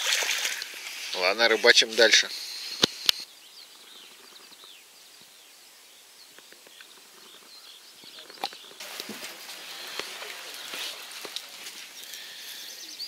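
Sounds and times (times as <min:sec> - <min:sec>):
steady hiss: 0:00.5 - 0:08.0, 0:08.7 - 0:13.0
songbirds chirping: 0:00.6 - 0:13.0.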